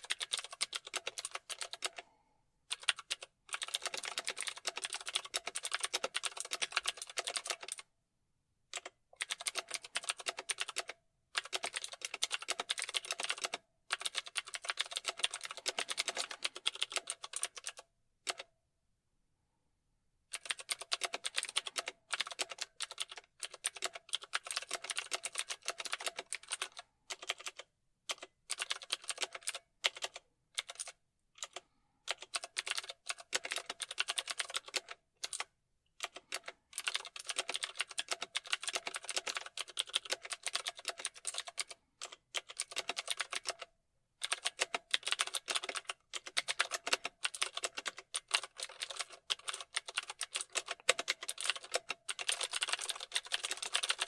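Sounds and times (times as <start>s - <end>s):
fast typing on keyboard: 0.0s - 2.0s, 2.7s - 7.9s, 8.8s - 18.5s, 20.3s - 54.0s.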